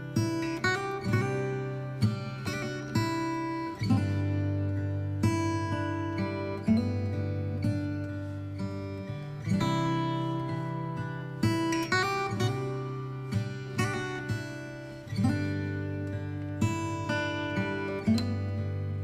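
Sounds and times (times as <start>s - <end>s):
acoustic guitar plucking: 0.0s - 19.0s.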